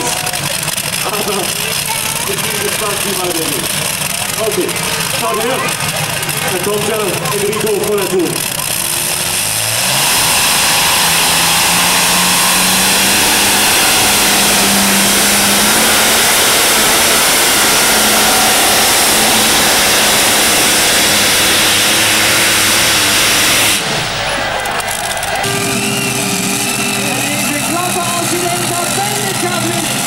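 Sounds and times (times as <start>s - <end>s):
tractor engine at full throttle: 0.0s - 30.0s.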